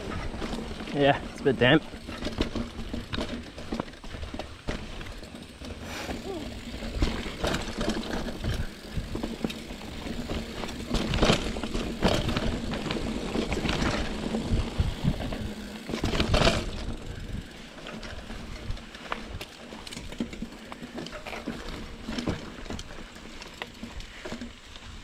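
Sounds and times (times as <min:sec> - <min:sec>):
tyres rumbling on dirt: 0:00.0 - 0:24.6
bike rattles and knocks: 0:00.0 - 0:25.0.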